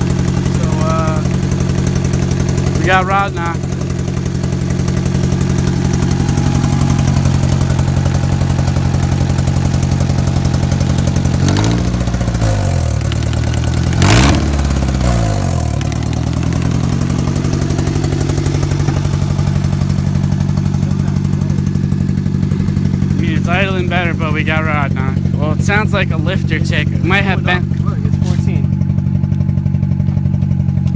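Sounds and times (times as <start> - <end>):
car engine idling roughly: 0.0 - 30.9
engine knocking: 0.0 - 30.9.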